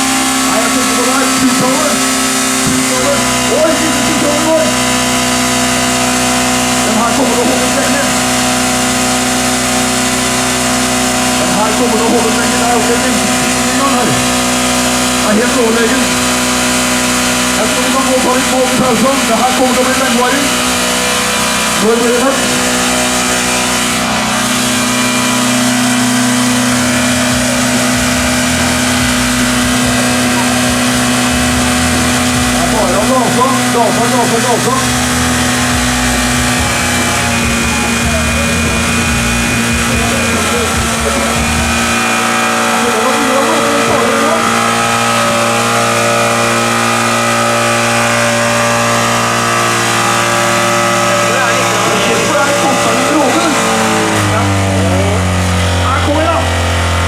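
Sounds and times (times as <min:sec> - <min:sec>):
car engine at high rev: 0:00.0 - 0:57.0.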